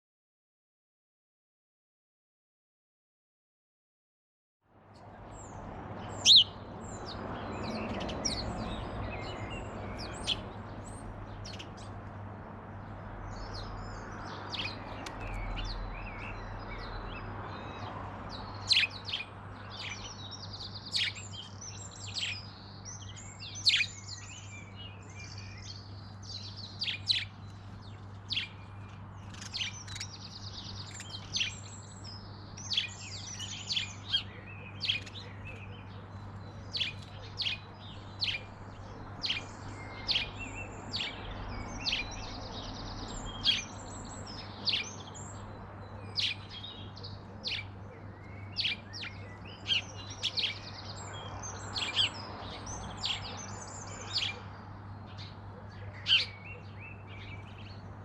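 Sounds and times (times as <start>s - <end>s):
birds chirping and singing: 5.0s - 58.0s.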